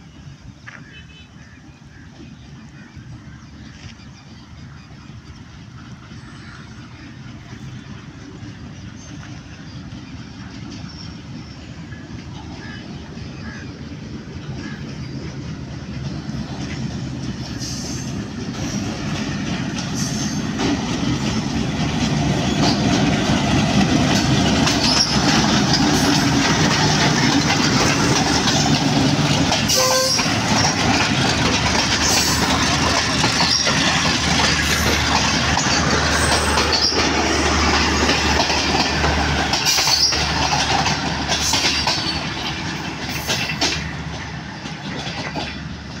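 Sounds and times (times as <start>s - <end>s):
diesel locomotive engine running: 0.0s - 46.0s
train rumbling past: 0.0s - 46.0s
wheels clacking over rail joints: 5.2s - 46.0s.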